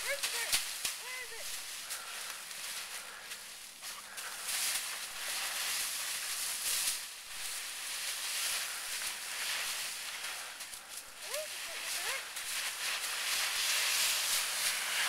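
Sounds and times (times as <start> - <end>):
dog burrowing in dry leaves: 0.0 - 15.0.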